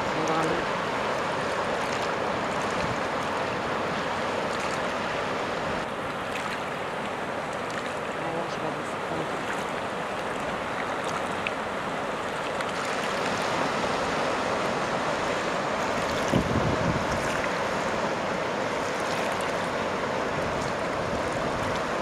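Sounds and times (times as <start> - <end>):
river rushing over rapids: 0.0 - 22.0.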